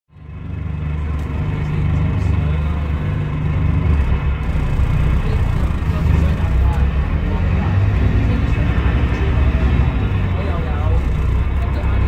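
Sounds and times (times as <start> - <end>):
diesel engine rumbling: 0.1 - 12.0.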